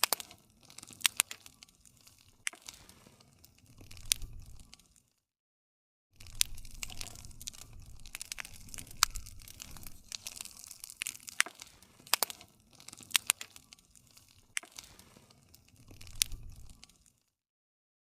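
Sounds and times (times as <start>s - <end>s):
campfire pops and snaps: 0.0s - 5.1s, 6.2s - 17.4s
low rush of flames: 0.4s - 5.0s, 6.2s - 17.2s.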